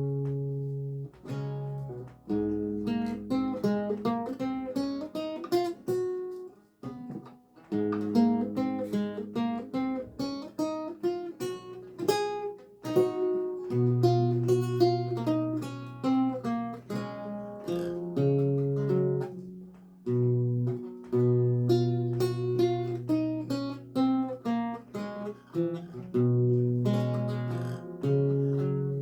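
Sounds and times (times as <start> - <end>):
solo lute music: 0.0 - 29.0.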